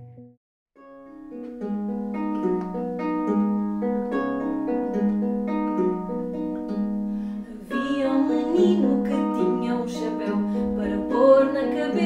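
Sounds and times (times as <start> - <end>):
acoustic guitar fingerpicking: 0.0 - 12.0.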